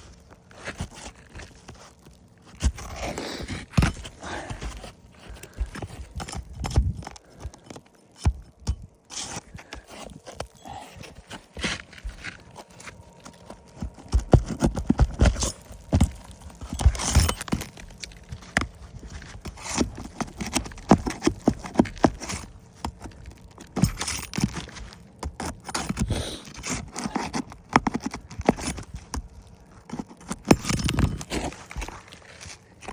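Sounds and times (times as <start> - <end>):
knocks and scrapes on shingle roof: 0.0 - 32.9.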